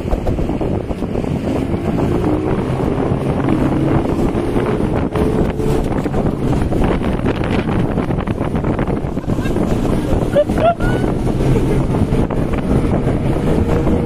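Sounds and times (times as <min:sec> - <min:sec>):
outboard motors running: 0:00.0 - 0:14.0
wind noise on microphone: 0:00.0 - 0:14.0.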